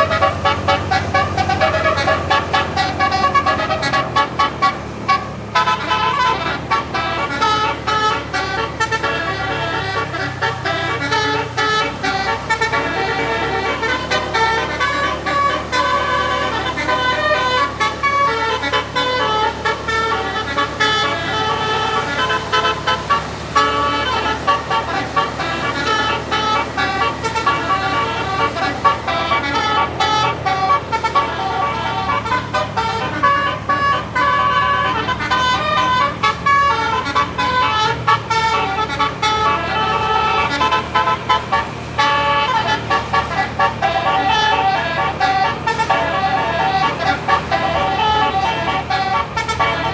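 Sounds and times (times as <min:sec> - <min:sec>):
bus horn playing a tune: 0:00.0 - 0:49.9.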